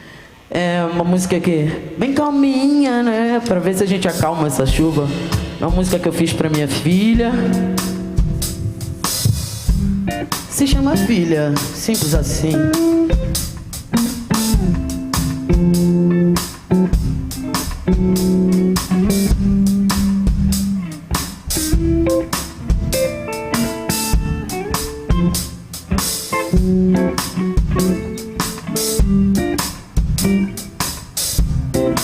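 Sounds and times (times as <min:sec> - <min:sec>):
bass guitar: 0:03.5 - 0:32.0
drums keeping time: 0:03.9 - 0:32.0
electric guitars picking melody: 0:04.6 - 0:32.0.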